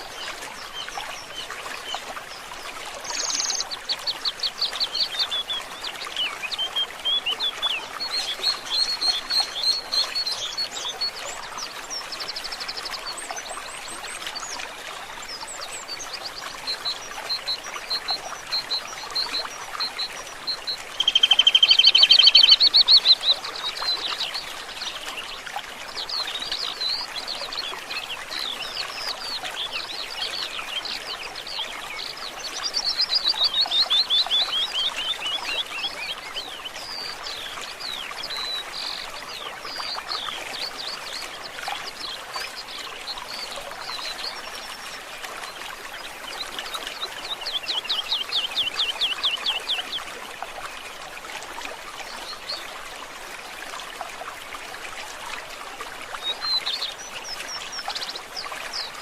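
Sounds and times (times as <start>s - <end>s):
water trickling: 0.0s - 59.0s
birds singing and calling: 0.1s - 14.6s, 15.2s - 25.4s, 26.0s - 45.6s, 46.2s - 50.1s.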